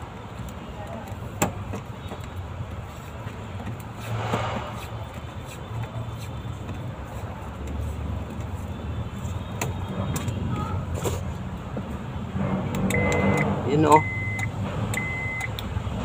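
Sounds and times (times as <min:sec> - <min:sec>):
vehicle motor rumble: 0:00.0 - 0:16.0.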